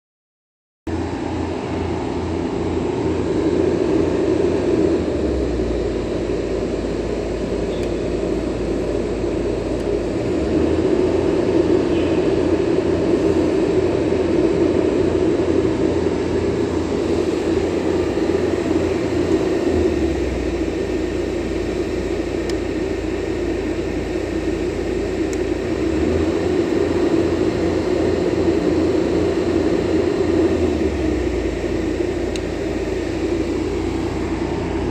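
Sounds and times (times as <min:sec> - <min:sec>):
diesel generator engine hum: 0:00.9 - 0:34.9.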